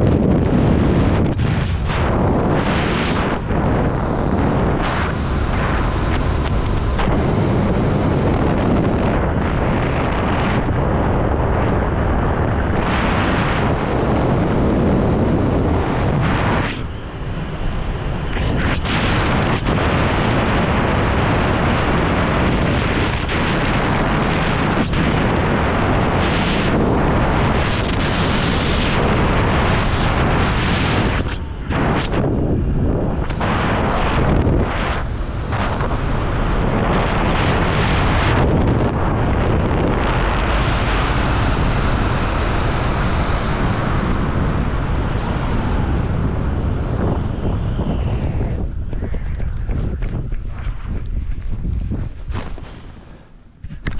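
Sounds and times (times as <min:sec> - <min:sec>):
loud wind buffeting microphone: 0:00.0 - 0:53.9.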